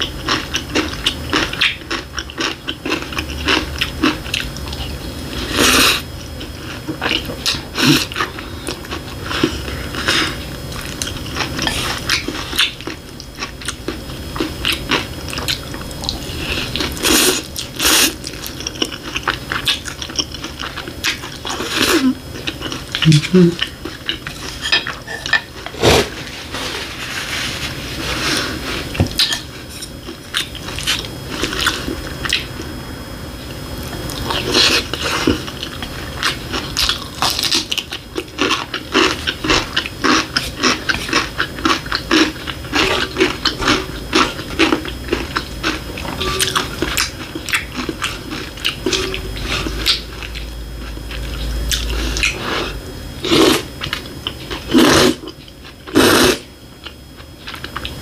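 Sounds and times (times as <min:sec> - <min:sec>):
chewing: 0:00.0 - 0:26.1, 0:33.8 - 0:58.0.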